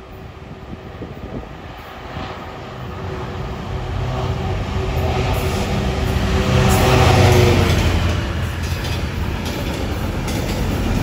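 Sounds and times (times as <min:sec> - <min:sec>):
diesel locomotive drone: 0:00.0 - 0:11.0
train rumble: 0:00.0 - 0:11.0.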